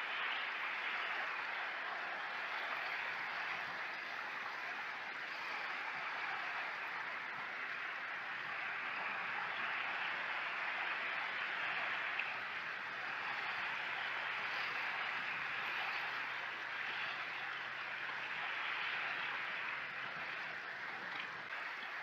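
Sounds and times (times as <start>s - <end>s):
small waves lapping on shore: 0.0s - 22.0s.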